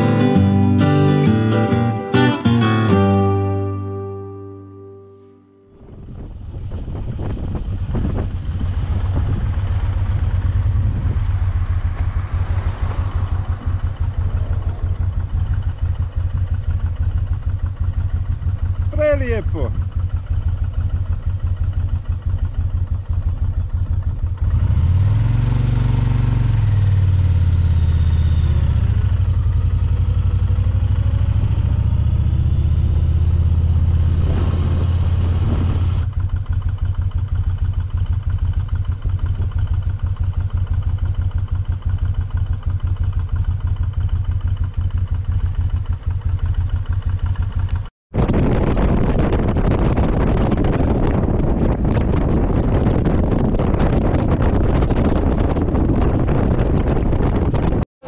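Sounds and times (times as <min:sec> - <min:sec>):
motorcycle engine: 0:05.7 - 0:57.9.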